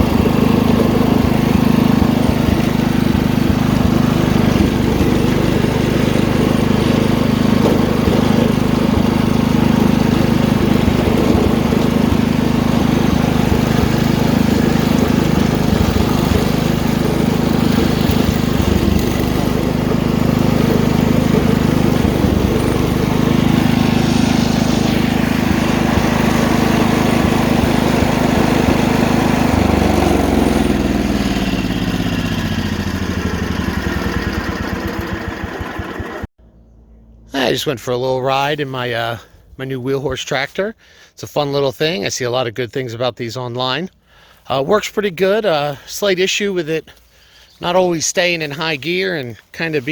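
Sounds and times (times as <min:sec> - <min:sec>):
garden tractor engine running: 0:00.0 - 0:40.4, 0:43.6 - 0:49.9.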